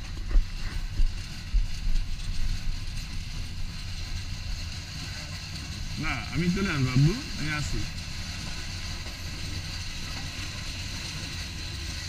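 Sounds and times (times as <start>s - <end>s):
train wheels clattering: 0.0s - 12.0s.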